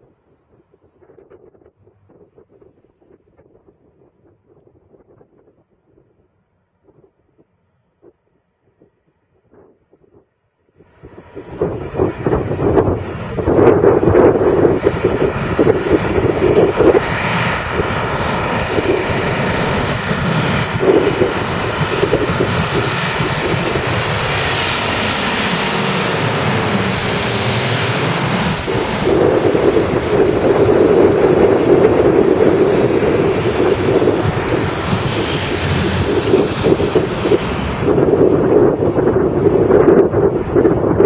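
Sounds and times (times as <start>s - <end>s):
jet engines whine overhead: 0.0s - 41.0s
low rushing jet noise: 0.0s - 41.0s.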